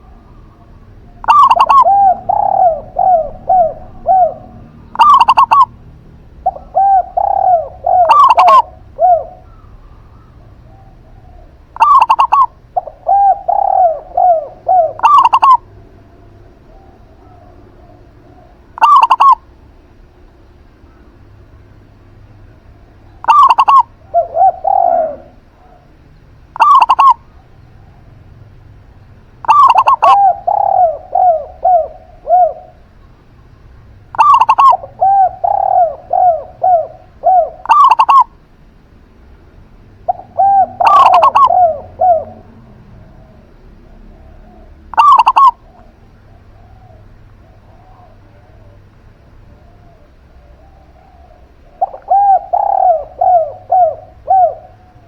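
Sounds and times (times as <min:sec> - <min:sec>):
doves cooing: 0:00.0 - 0:55.0.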